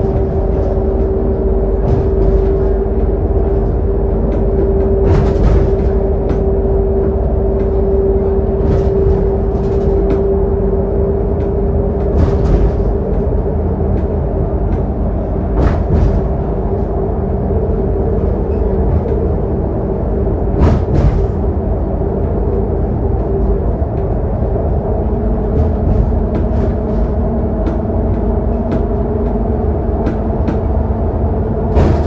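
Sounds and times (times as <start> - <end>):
bus diesel engine drone: 0.0 - 32.0
steady whine: 0.0 - 32.0.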